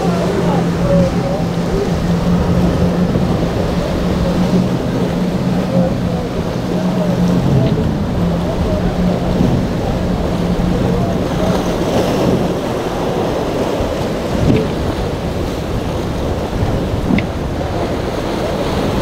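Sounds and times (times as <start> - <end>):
outboard motors humming: 0.0 - 19.0
surf wash: 0.0 - 19.0
wind buffeting microphone: 0.0 - 19.0.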